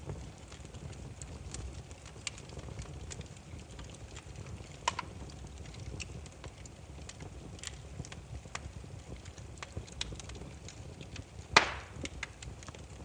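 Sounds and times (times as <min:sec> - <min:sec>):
campfire crackling and popping: 0:00.0 - 0:13.0
low rumble of burning logs: 0:00.0 - 0:13.0.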